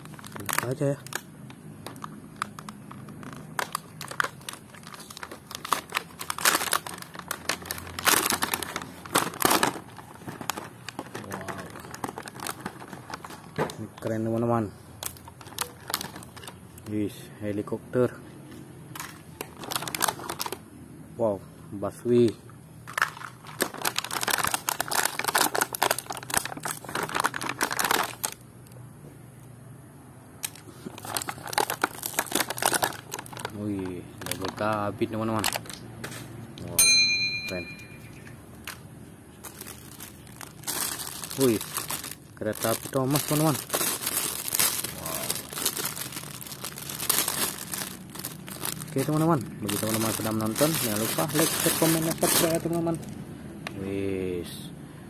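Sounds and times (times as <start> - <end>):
plastic packaging crinkling: 0.0 - 16.9, 18.9 - 20.6, 22.8 - 28.5, 30.4 - 35.8, 38.6 - 53.2.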